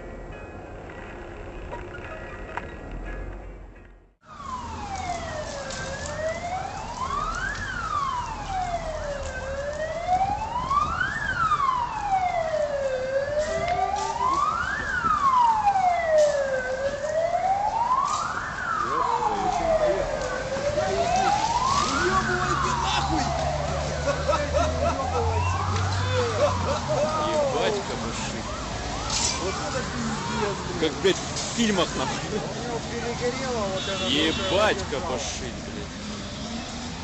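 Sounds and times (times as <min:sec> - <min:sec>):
emergency siren wailing: 0:04.2 - 0:37.0.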